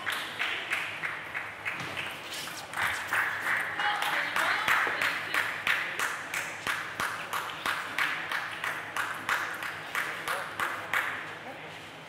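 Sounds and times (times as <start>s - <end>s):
crowd clapping in rhythm: 0.0s - 11.3s.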